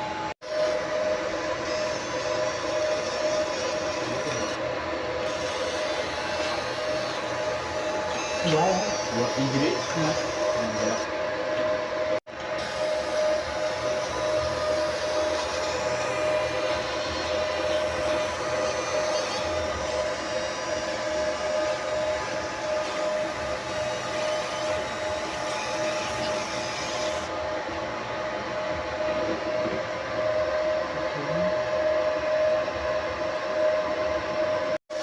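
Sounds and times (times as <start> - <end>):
engraving machine whine: 0.0 - 28.3.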